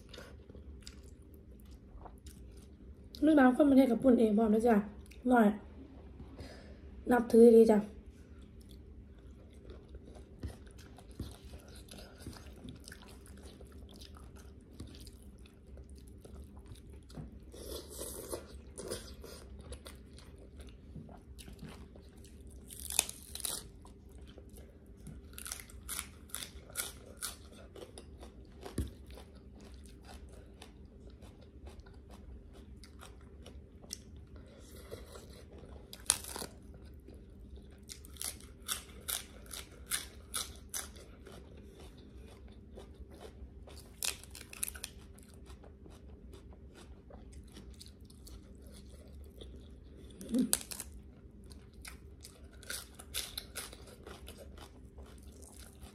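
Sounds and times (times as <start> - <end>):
chewing and crunching food: 0.0 - 3.6, 8.1 - 55.9
faint steady hum: 0.0 - 55.9.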